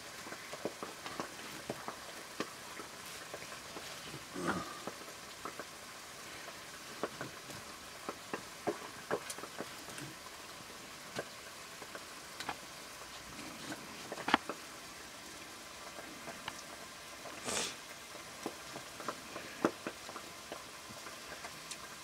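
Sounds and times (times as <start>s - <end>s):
faint steady hiss: 0.0s - 22.0s
fire crackling: 0.0s - 22.0s.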